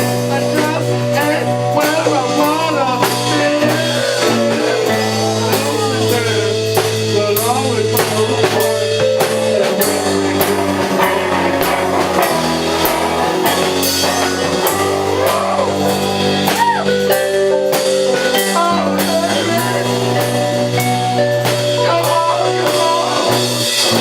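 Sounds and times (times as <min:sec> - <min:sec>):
bass guitar: 0:00.0 - 0:24.0
drum kit hits: 0:00.0 - 0:24.0
electric guitar: 0:00.0 - 0:24.0.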